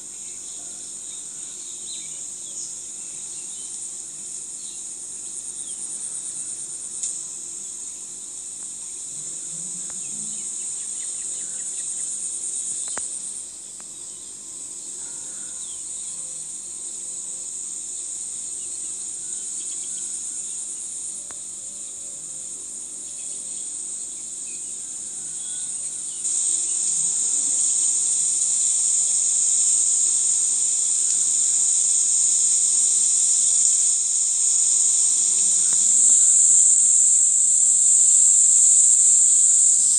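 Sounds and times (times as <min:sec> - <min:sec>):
insects singing: 0:00.0 - 0:39.9.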